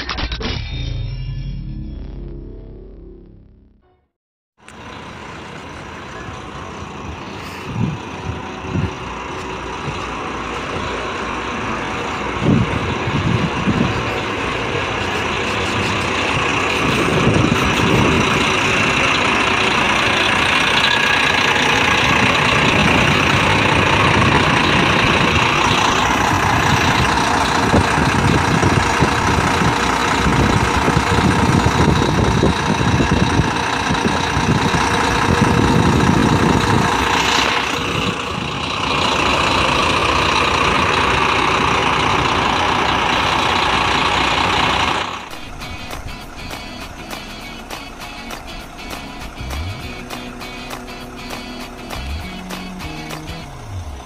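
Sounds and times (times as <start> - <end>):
diesel engine idling: 4.6 - 54.0.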